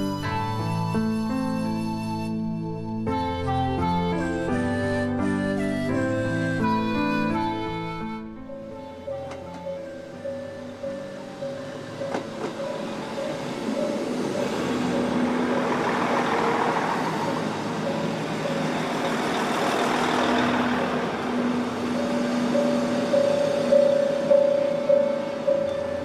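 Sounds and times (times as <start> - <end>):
diesel train arriving: 0.0 - 26.0
soft music: 0.0 - 26.0.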